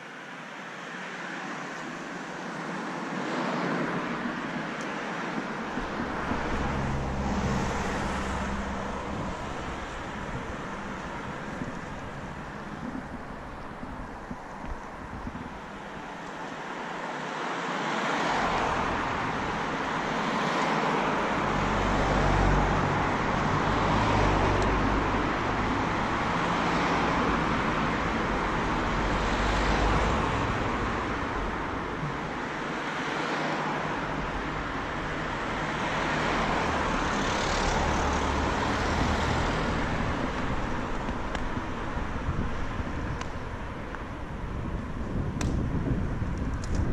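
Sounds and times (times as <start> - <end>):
cars passing: 0.0 - 46.9.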